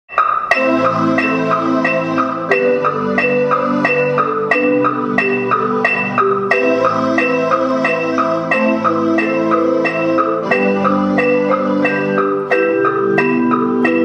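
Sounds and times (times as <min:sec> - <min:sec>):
marimba-like mallet music: 0:00.1 - 0:14.0.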